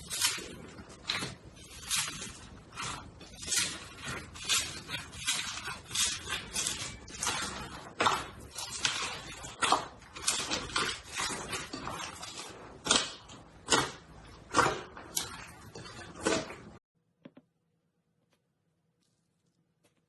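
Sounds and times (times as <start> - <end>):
slime squishing by hand: 0.0 - 16.8.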